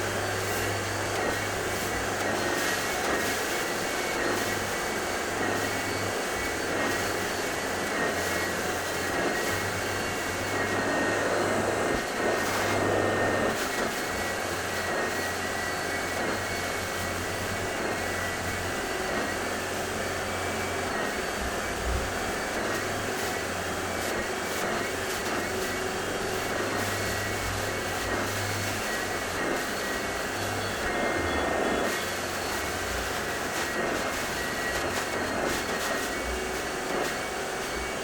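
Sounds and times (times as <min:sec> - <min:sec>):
carpet-washing vacuum machine running: 0:00.0 - 0:38.0.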